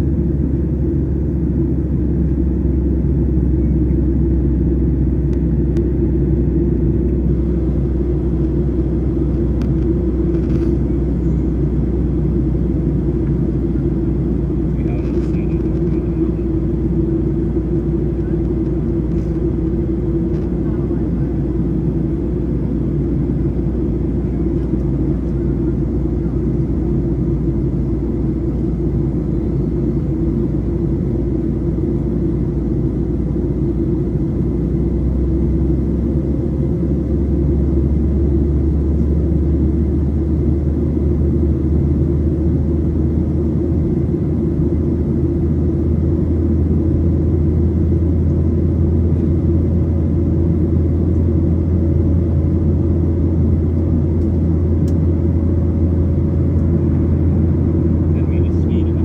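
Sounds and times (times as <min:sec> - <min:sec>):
airplane engines rumbling: 0:00.0 - 0:59.0.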